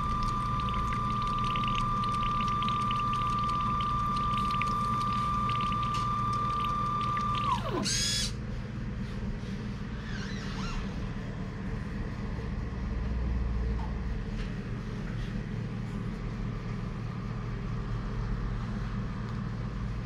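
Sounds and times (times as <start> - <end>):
low mechanical hum with hiss: 0.0 - 20.0.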